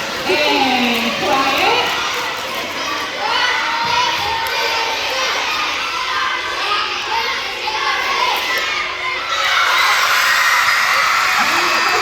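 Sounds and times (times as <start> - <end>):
children shouting and cheering: 0.0 - 12.0.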